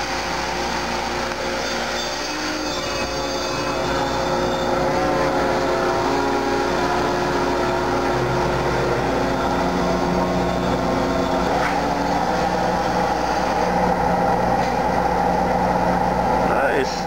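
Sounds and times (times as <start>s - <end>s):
machinery hum: 0.0s - 17.0s
steady machine whining tones: 0.0s - 17.0s.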